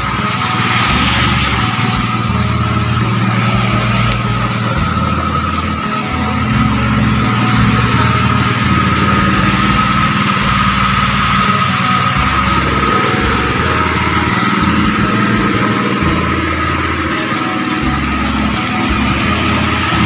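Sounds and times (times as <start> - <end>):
car engine idling: 0.0 - 20.0
steady high whine: 0.0 - 20.0.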